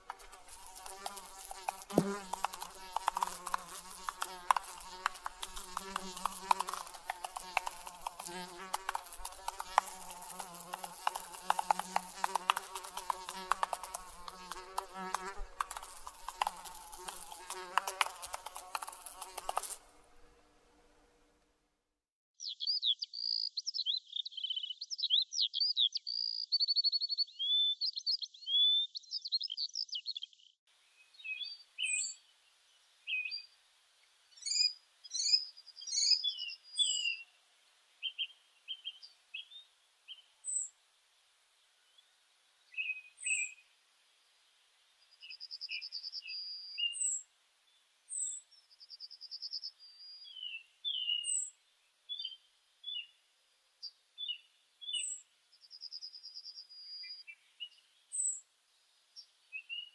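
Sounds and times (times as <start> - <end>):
small birds chirping: 0.0 - 19.9, 22.4 - 33.6, 34.3 - 37.4, 41.7 - 43.7, 44.4 - 53.2, 53.8 - 59.9.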